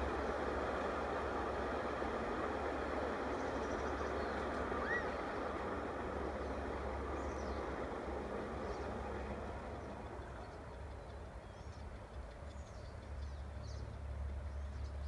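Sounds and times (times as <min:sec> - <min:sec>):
miniature train rolling on track: 0:00.0 - 0:15.0.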